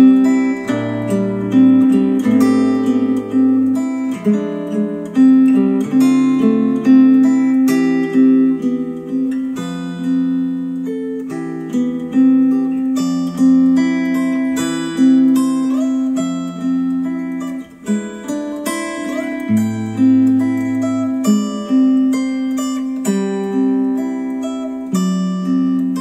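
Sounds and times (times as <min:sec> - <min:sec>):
plucked string music with bass: 0:00.0 - 0:26.0.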